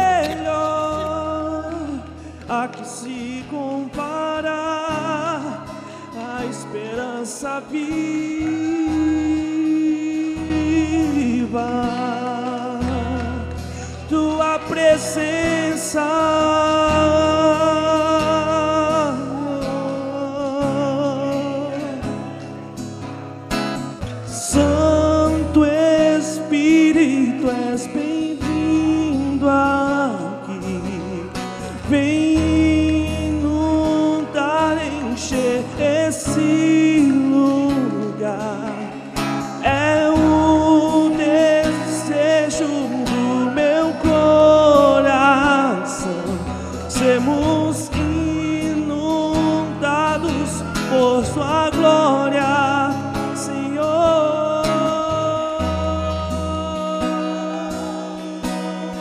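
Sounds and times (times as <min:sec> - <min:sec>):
gospel singing with band: 0:00.0 - 0:22.0, 0:24.1 - 0:59.0.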